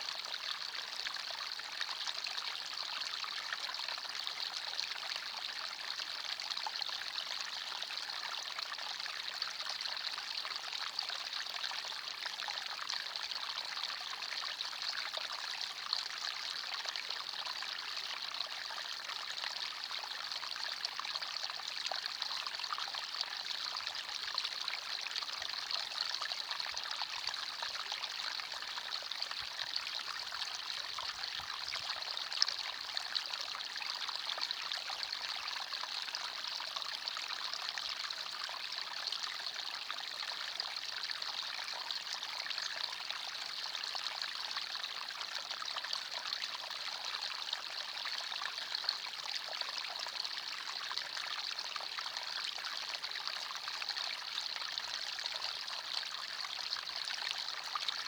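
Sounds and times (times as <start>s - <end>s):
stream trickling over stones: 0.1s - 58.0s.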